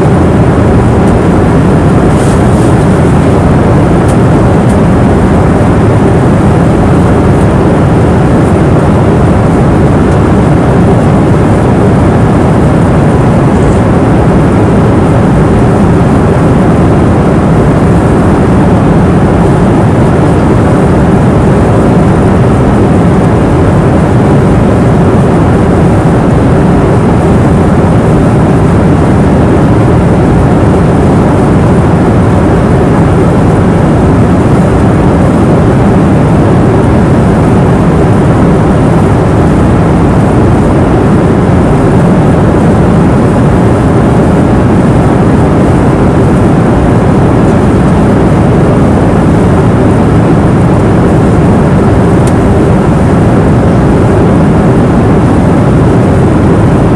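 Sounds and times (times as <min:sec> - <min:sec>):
airliner cabin drone: 0:00.0 - 0:56.9
faint steady hum: 0:00.0 - 0:56.9.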